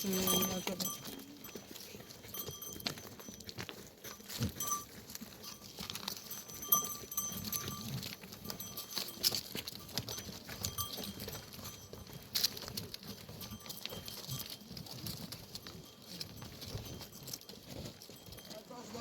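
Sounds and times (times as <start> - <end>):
animal bells clinking: 0.0 - 19.0.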